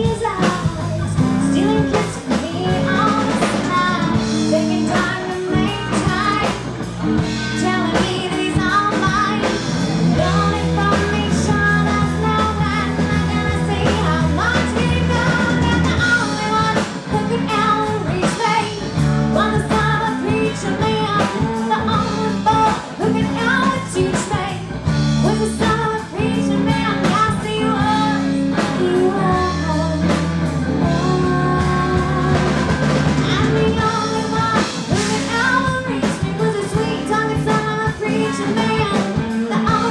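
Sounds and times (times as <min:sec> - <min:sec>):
guitar: 0:00.0 - 0:39.9
long held bass notes: 0:00.0 - 0:39.9
person singing: 0:00.0 - 0:39.9.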